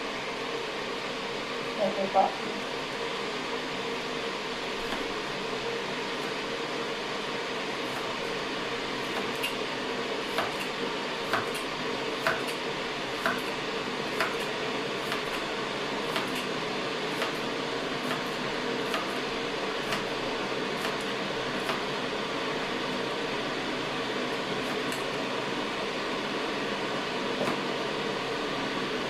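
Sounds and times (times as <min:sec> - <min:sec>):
kitchen fan whirring: 0:00.0 - 0:29.0.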